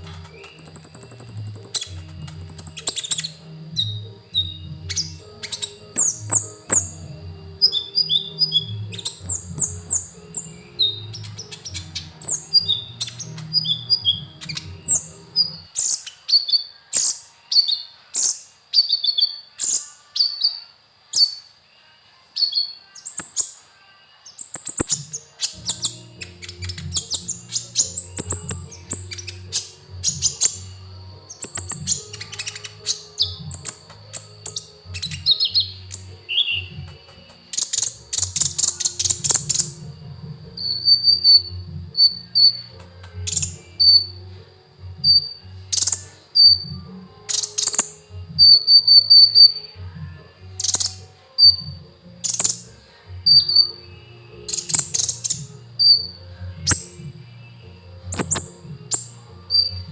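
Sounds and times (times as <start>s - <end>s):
background music with low beat: 0.0s - 16.1s, 24.4s - 59.9s
bird chirping and twittering: 0.0s - 21.5s, 22.4s - 23.6s, 24.3s - 44.2s, 45.0s - 49.8s, 50.6s - 52.7s, 54.5s - 57.1s, 58.1s - 59.9s.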